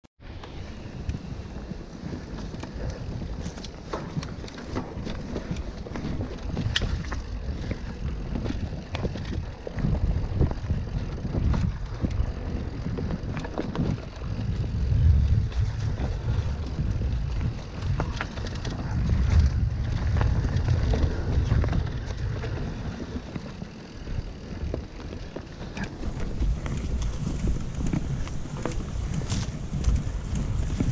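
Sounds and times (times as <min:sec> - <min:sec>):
bike clicks and rattles: 0:00.2 - 0:30.9
bike tyres rolling on dirt: 0:00.2 - 0:30.9
wind rumbling on microphone: 0:00.2 - 0:30.9.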